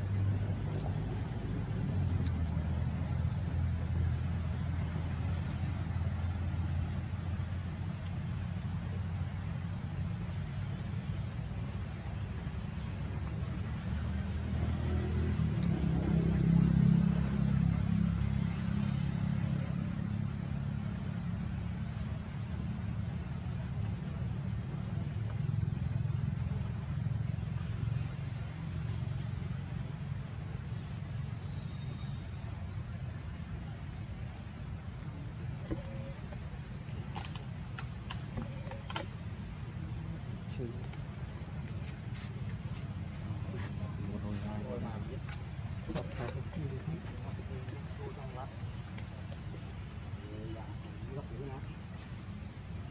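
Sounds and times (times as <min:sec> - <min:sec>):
constant hum: 0:00.0 - 0:52.9
low rumble: 0:00.0 - 0:52.9.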